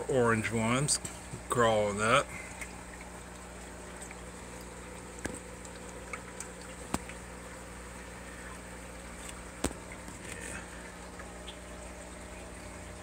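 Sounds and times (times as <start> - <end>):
aquarium hum and bubbling: 0.0 - 13.0.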